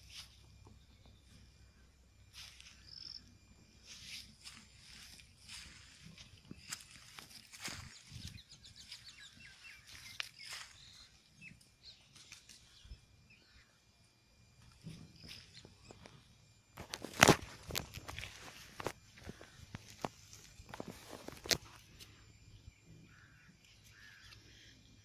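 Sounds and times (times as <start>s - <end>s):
small birds chirping: 0.0s - 13.8s, 17.7s - 25.0s.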